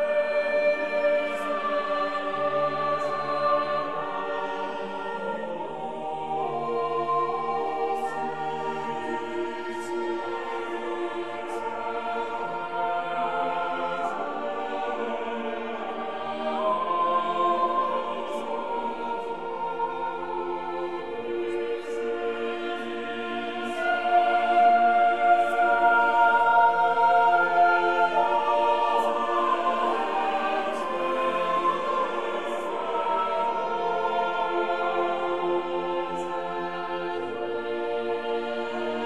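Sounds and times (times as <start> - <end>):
slow choral music: 0.0 - 39.0.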